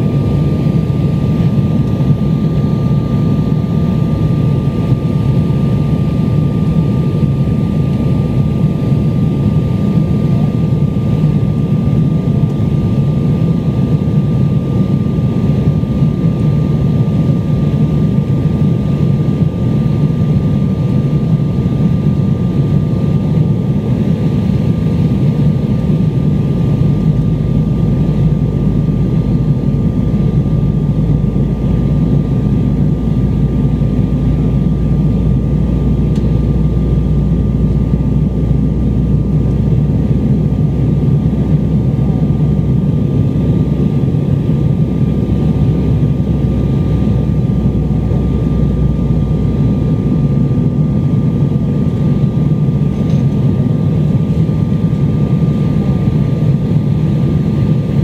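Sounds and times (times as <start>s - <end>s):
jet engine and airflow drone: 0.0s - 58.0s
thin steady whine: 0.0s - 58.0s.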